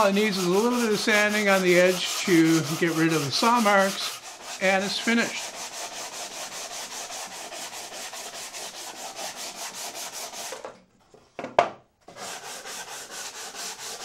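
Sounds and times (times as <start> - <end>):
sandpaper rubbing on wood: 0.0 - 10.6, 12.1 - 14.0.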